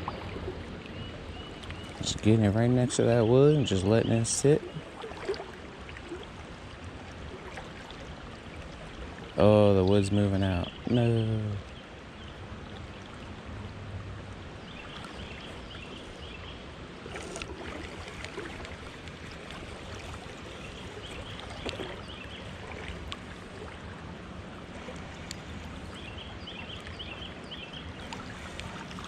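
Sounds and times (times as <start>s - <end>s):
water lapping around kayak: 0.0s - 29.0s.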